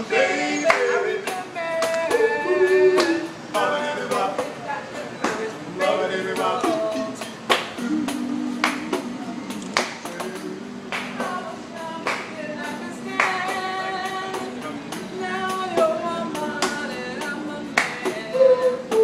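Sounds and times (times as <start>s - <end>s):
instrumental music with percussive hits: 0.0s - 4.6s, 6.3s - 19.0s.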